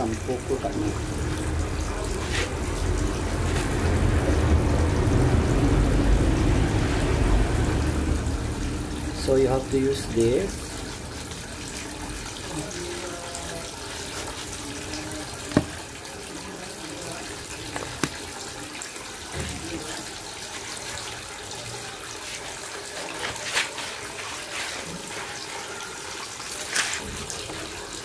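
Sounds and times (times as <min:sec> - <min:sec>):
water running from tap: 0:00.0 - 0:28.0.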